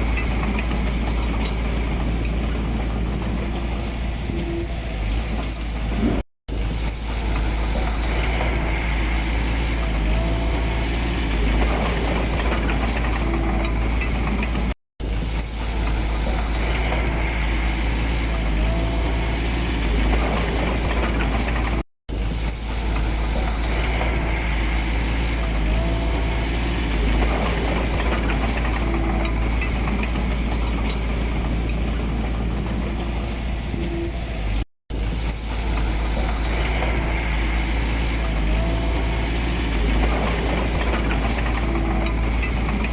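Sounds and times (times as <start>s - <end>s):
heavy diesel engine rumbling: 0.0s - 42.9s.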